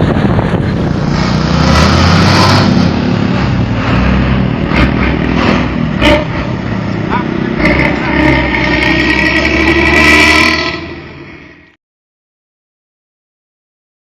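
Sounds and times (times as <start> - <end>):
diesel bus engine: 0.0 - 11.8.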